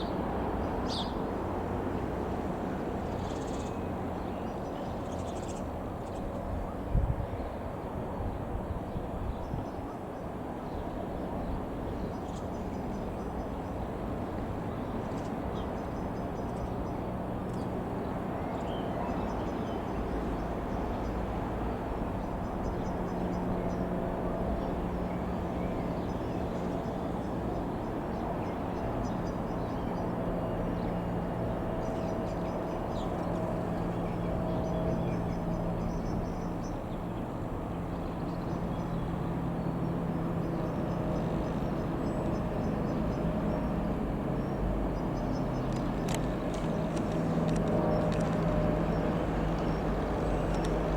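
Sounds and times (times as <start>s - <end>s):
light aircraft engine droning: 0.0s - 50.9s.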